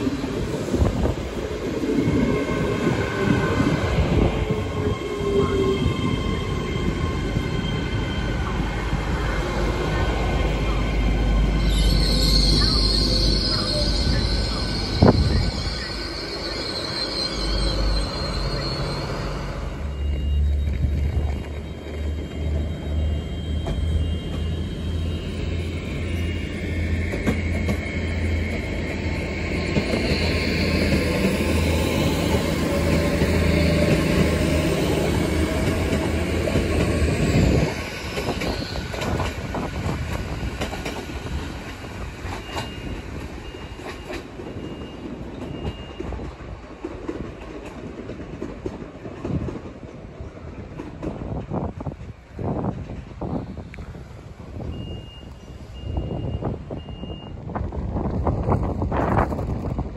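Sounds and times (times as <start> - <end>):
train diesel engine drone: 0.0 - 59.9.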